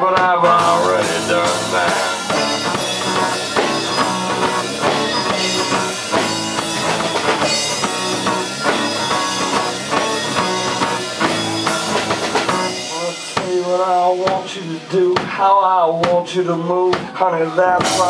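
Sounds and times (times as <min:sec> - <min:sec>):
electric bass: 0:00.0 - 0:15.3
electric guitar: 0:00.0 - 0:16.3
drum kit beat: 0:00.0 - 0:18.0
rock band playing: 0:00.0 - 0:18.0.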